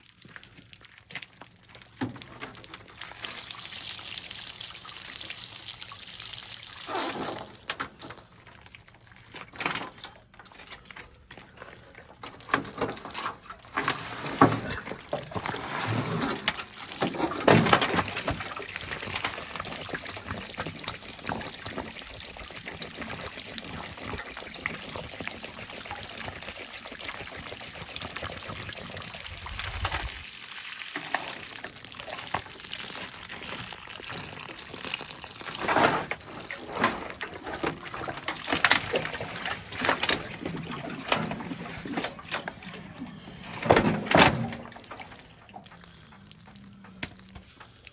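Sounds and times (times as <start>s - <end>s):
water pouring and trickling: 0.0s - 47.9s.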